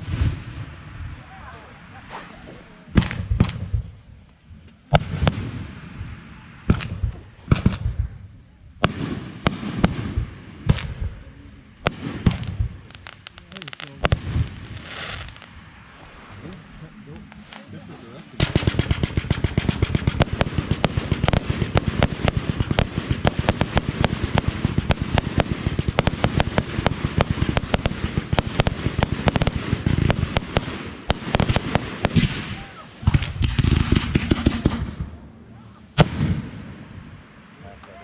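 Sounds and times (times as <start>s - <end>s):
fireworks banging: 0.0s - 38.0s.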